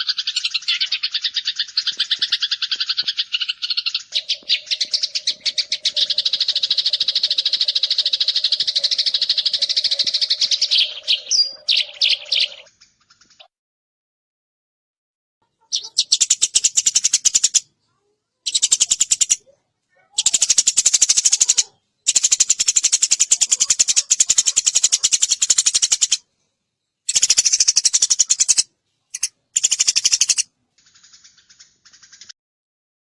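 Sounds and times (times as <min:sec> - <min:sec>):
sparrow chirping rapidly: 0:00.0 - 0:13.5, 0:15.6 - 0:17.7, 0:18.4 - 0:26.2, 0:27.0 - 0:32.3.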